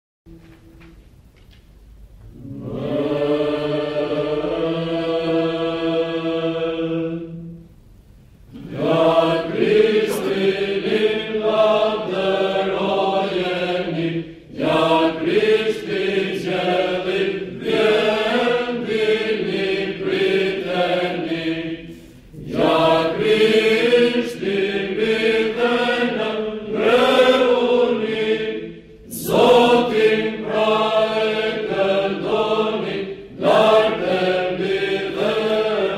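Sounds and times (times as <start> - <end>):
mixed choir chanting a cappella: 2.3 - 7.6, 8.6 - 35.9.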